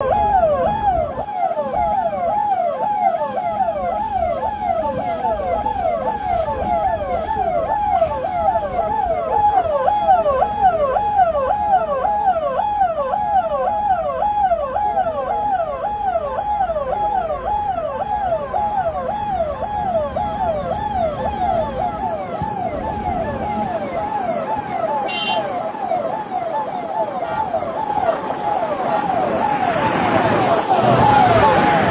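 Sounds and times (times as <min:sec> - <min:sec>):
police siren yelping: 0:00.0 - 0:31.9.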